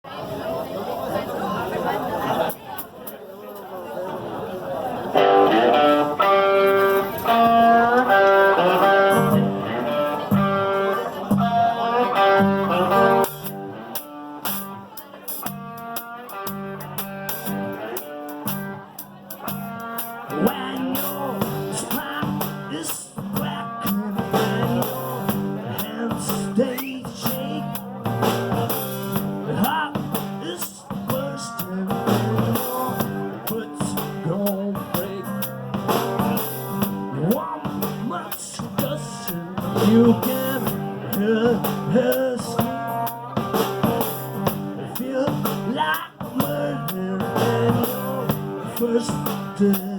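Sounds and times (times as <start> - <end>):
blues band playing live: 4.7 - 49.9
guitar riff: 5.0 - 49.9
drum kit: 5.2 - 49.9.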